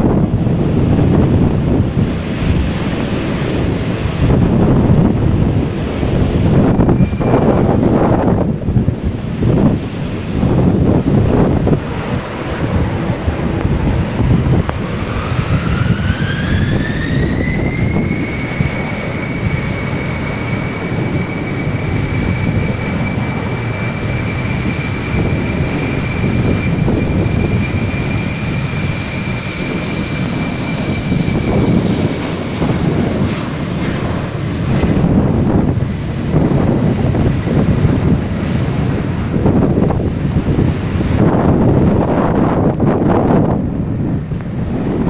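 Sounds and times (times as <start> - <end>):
jet engines spooling up: 0.0 - 45.0
wind buffeting microphone: 0.0 - 45.0.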